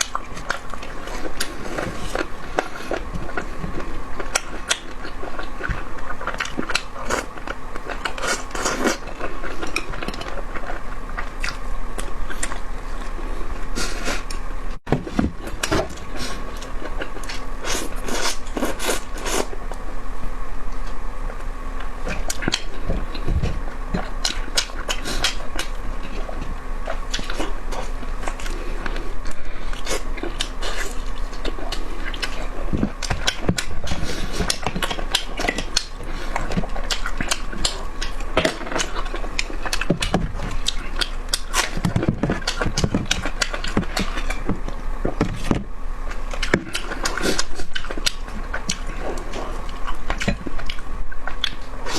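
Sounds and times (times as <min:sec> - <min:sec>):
biting and chewing food: 0:00.0 - 0:19.8, 0:20.7 - 0:51.9
faint steady hum: 0:00.0 - 0:51.9.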